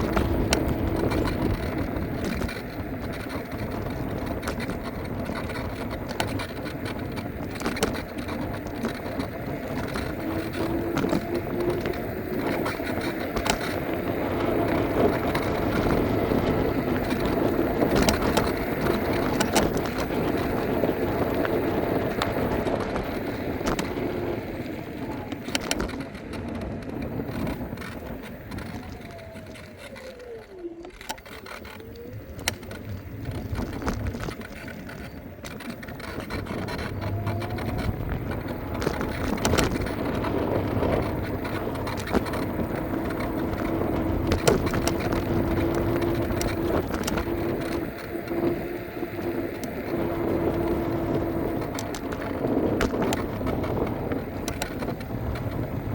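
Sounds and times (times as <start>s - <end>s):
electric motor whine: 0.0s - 55.9s
road rumble: 0.0s - 55.9s.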